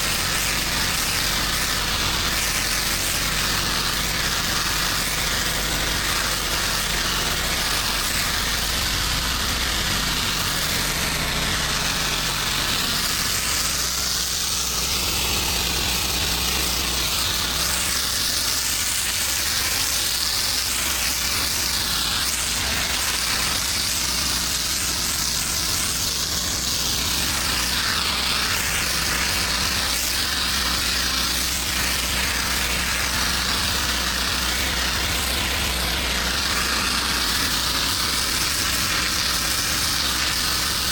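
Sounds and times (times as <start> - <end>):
engine running: 0.0 - 40.9
water spray hissing: 0.0 - 40.9.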